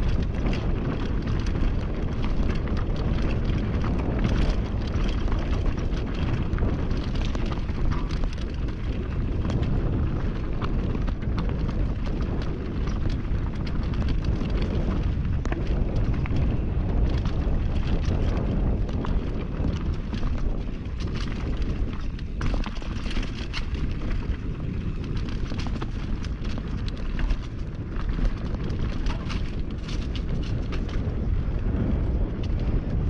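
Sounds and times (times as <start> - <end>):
bike clicks and rattles: 0.0 - 33.0
wind buffeting microphone: 0.0 - 33.0.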